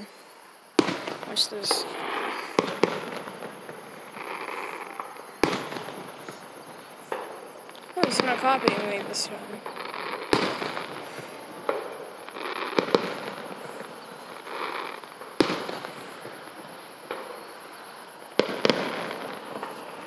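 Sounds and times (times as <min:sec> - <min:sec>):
fireworks bangs: 0:00.7 - 0:20.0.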